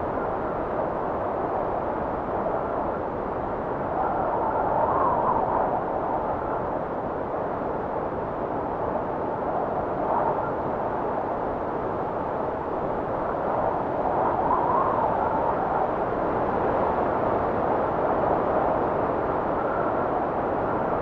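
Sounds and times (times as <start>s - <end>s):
blizzard wind gusting: 0.0s - 21.0s.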